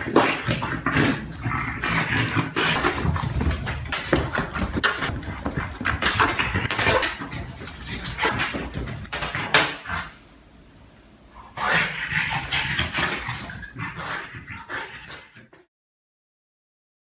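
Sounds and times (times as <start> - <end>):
puppy noises: 0.0 - 10.2, 11.4 - 15.7.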